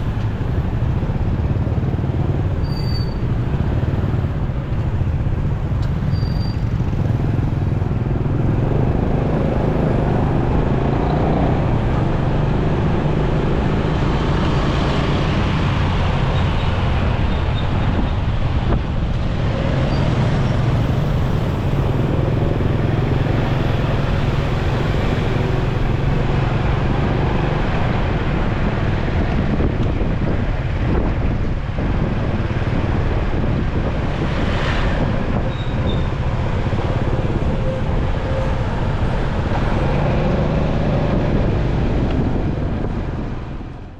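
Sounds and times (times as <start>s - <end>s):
motorcycle engine humming: 0.0s - 43.9s
other vehicles passing: 0.0s - 43.9s
wind and road noise: 0.0s - 43.9s.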